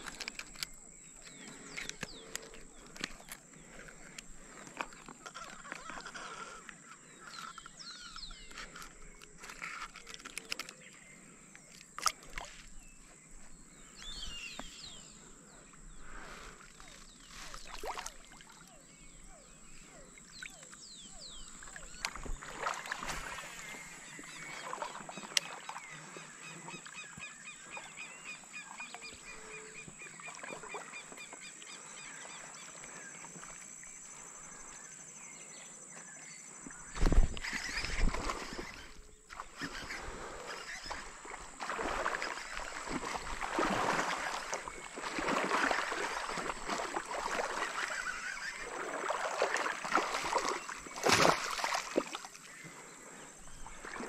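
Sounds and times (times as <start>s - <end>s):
birds chirping: 0.0s - 54.0s
regular pulsing bird call: 0.0s - 54.0s.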